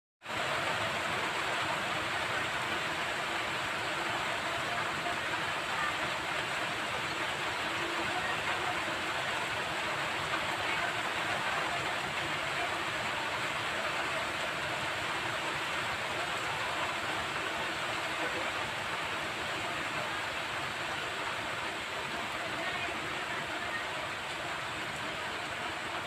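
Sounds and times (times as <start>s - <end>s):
heavy rain falling: 0.2s - 26.0s.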